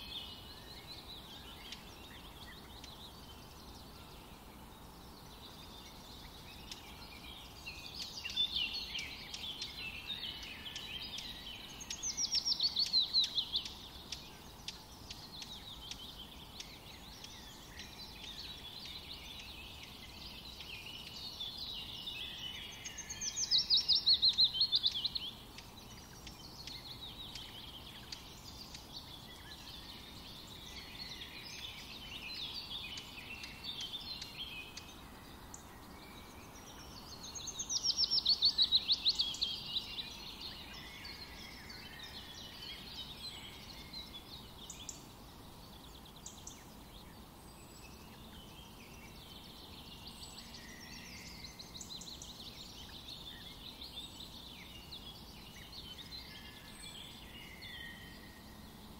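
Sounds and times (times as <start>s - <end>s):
songbirds chirping and singing: 0.0s - 58.9s.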